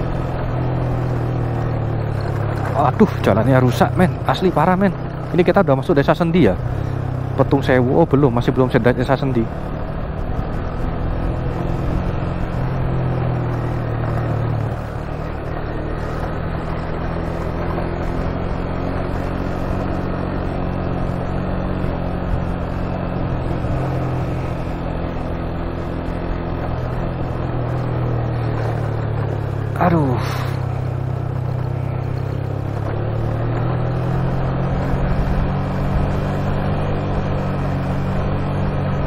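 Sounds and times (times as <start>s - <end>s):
motorcycle engine running: 0.0s - 39.0s
road and wind noise: 0.0s - 39.0s.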